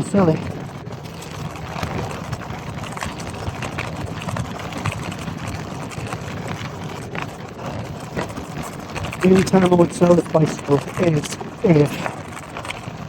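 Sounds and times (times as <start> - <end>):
bike knocks and rattles: 0.0 - 13.0
bike tyre noise on trail: 0.0 - 13.0.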